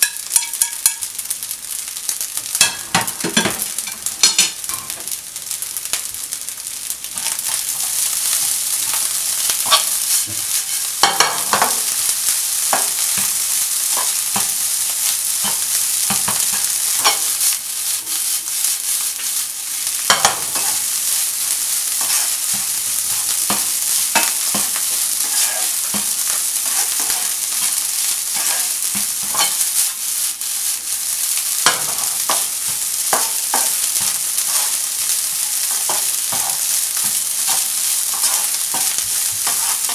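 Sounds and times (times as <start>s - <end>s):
rice sizzling in a pan: 0.0s - 39.9s
spatula scraping a pan: 7.2s - 39.9s.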